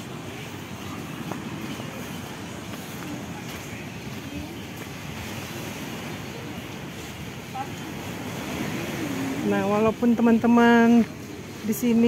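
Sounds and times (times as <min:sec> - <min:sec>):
surf breaking on beach: 0:00.0 - 0:10.2
faint distant voices: 0:00.0 - 0:12.0.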